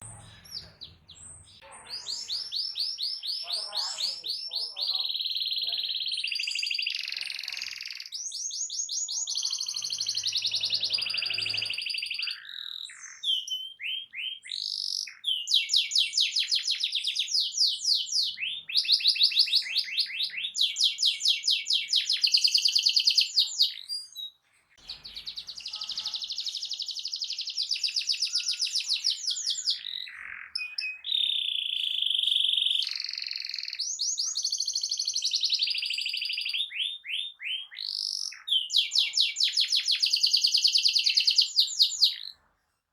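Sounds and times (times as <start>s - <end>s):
canary singing trills: 0.0s - 42.5s.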